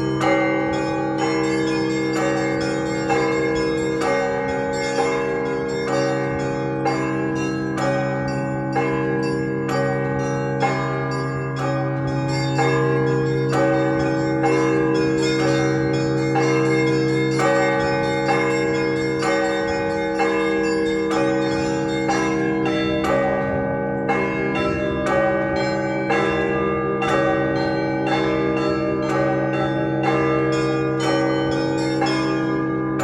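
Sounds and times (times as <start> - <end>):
large bells humming: 0.0 - 33.0
small church bells striking: 0.0 - 33.0.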